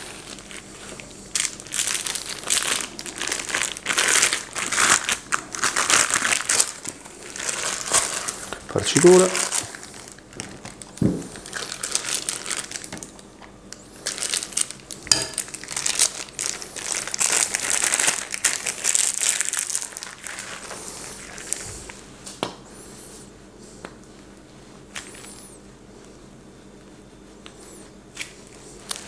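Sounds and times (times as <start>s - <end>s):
plastic piping bag crinkling: 0.0s - 22.1s, 27.6s - 29.0s.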